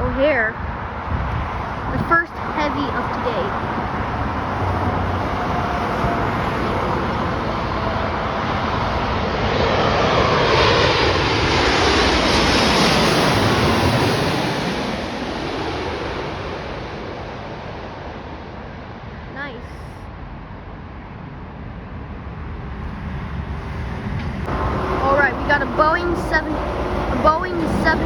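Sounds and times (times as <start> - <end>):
jet plane flying past: 0.0 - 28.0.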